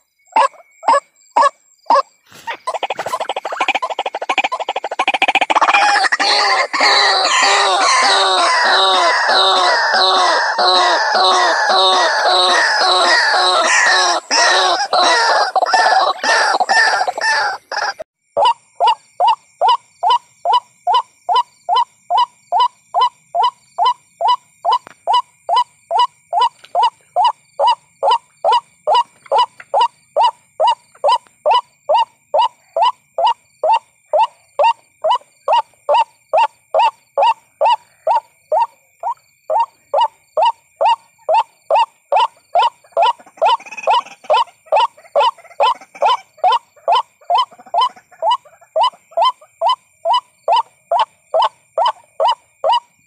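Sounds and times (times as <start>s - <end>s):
waterhen calls: 0.3s - 52.9s.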